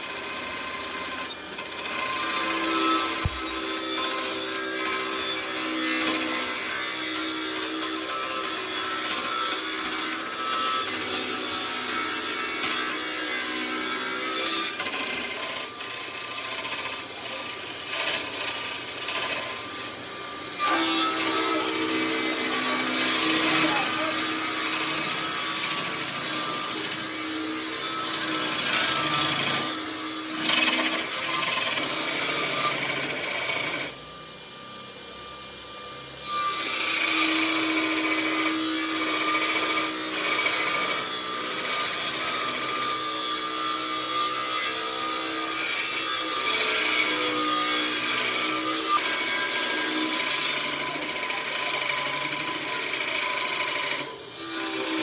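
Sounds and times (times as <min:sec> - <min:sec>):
power tool motor: 0:00.0 - 0:34.2, 0:36.1 - 0:55.0.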